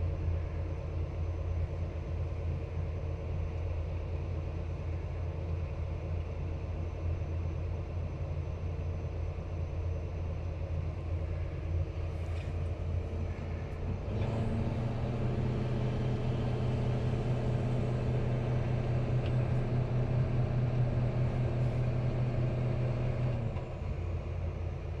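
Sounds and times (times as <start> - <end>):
excavator diesel engine: 0.0 - 25.0.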